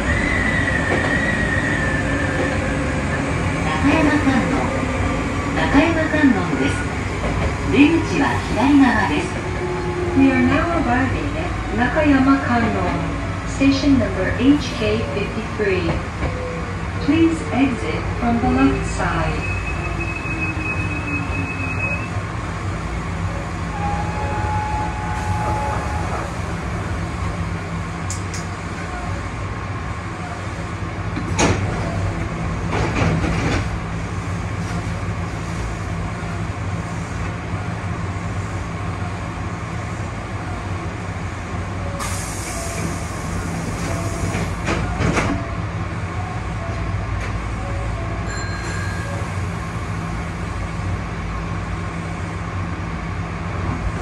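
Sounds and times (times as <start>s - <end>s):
train car rumble: 0.0s - 54.0s.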